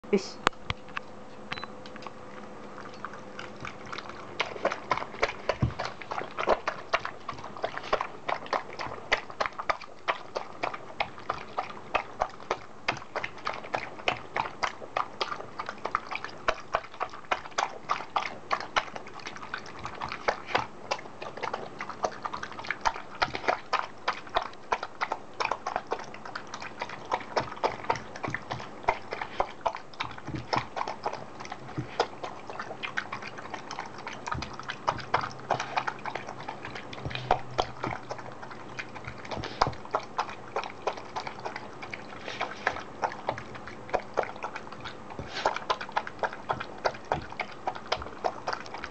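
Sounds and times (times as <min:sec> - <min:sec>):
dog eating mouth smacks: 0:00.6 - 0:48.9.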